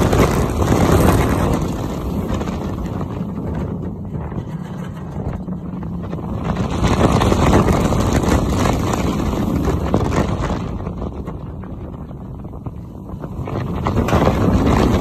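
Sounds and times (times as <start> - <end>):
roller coaster rumbling on track: 0.0 - 15.0
wind rushing over microphone: 0.0 - 15.0.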